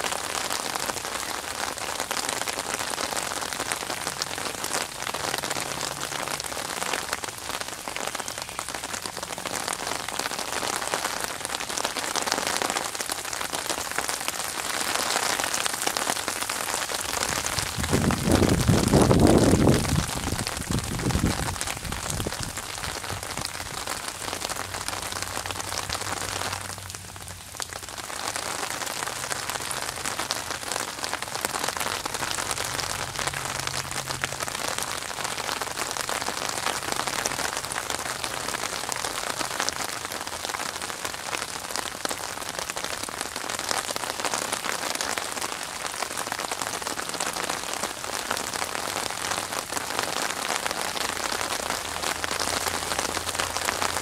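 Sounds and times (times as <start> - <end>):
rain falling on water: 0.0 - 54.0.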